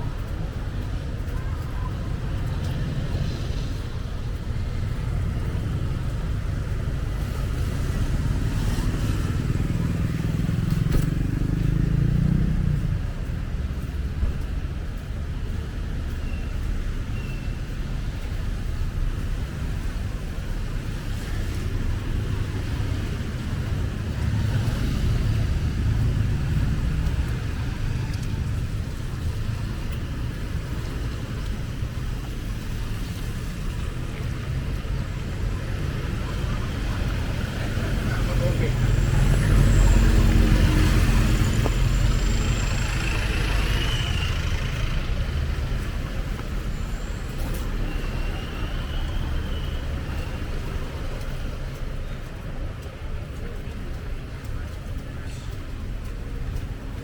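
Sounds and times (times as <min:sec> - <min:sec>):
passing cars and motorbikes: 0:00.0 - 0:57.0.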